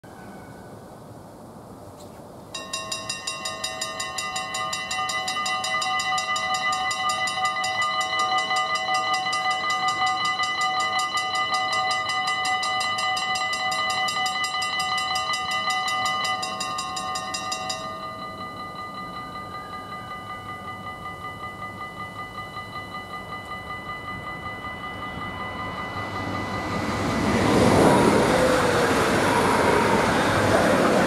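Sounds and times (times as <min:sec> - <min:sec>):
level-crossing warning bells ringing: 0:02.6 - 0:31.0.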